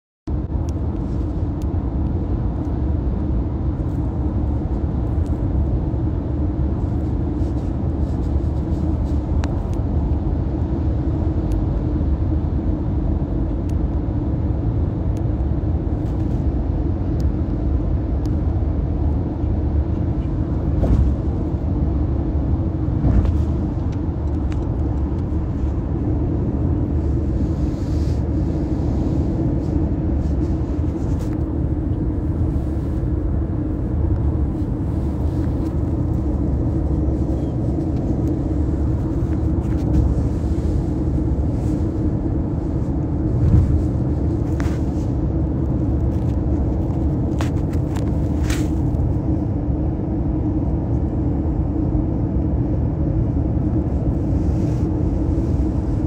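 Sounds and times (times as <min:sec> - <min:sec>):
car road rumble from inside: 0:00.3 - 0:56.0.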